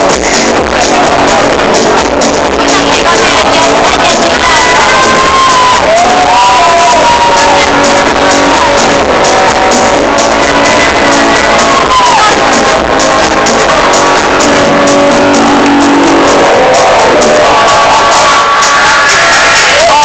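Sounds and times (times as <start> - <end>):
loud live music: 0.0 - 20.0.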